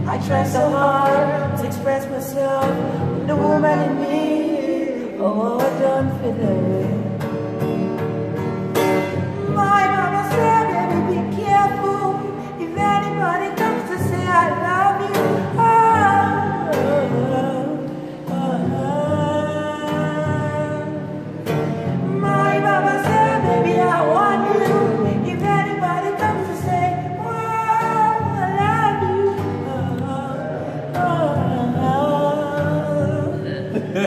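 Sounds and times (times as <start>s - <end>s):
man singing: 0.0s - 7.1s, 9.4s - 34.0s
acoustic guitar: 0.0s - 34.0s.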